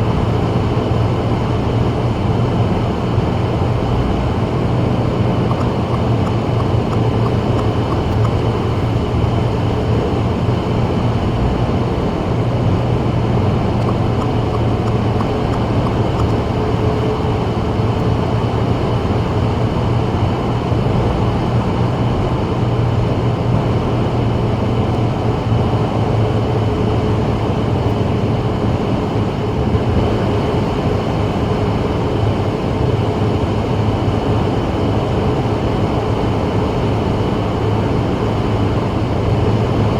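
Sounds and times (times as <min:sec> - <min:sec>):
low engine and road drone: 0:00.0 - 0:39.9.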